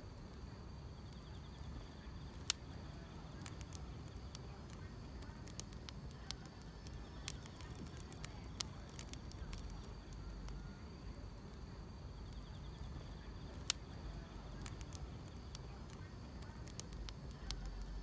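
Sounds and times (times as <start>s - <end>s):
insects trilling: 0.0s - 18.0s
wood fire crackling: 0.0s - 18.0s.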